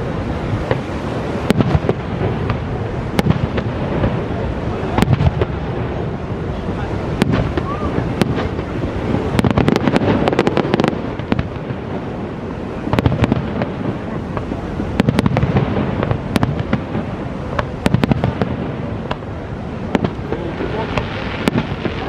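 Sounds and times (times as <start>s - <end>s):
fireworks bangs and crackling: 0.0s - 22.0s
steady rushing background noise: 0.0s - 22.0s.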